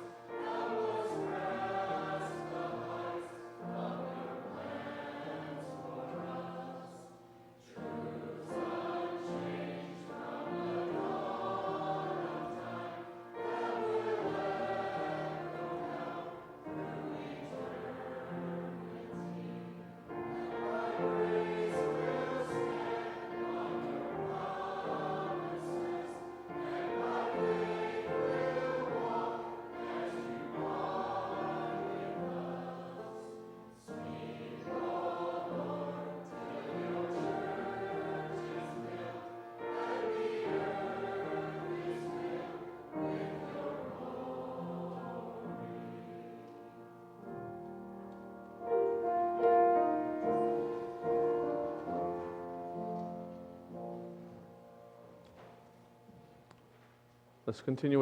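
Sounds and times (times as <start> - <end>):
many voices singing a hymn: 0.0 - 55.6.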